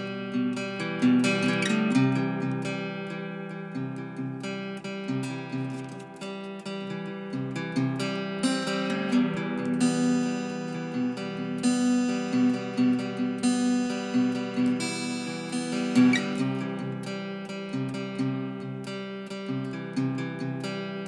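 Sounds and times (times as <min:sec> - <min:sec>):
acoustic guitar picking: 0:00.0 - 0:21.0.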